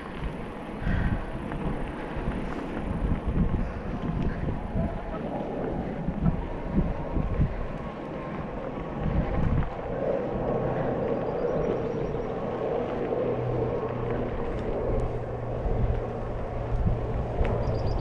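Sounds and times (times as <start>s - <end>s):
low steady hum: 0.0s - 18.0s
wind and road noise: 0.0s - 18.0s.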